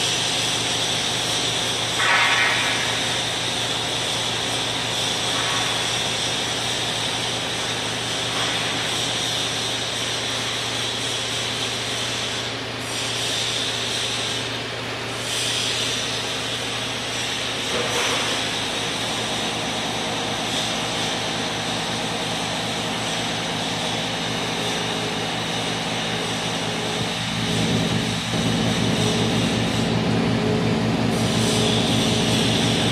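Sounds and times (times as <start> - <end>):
machine hiss: 0.0 - 30.1, 30.8 - 32.9
boring mill machine hum: 0.0 - 32.9.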